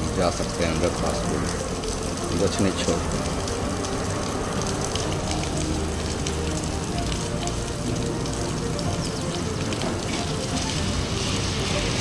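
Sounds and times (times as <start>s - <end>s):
drain water pouring and splashing: 0.0s - 12.0s.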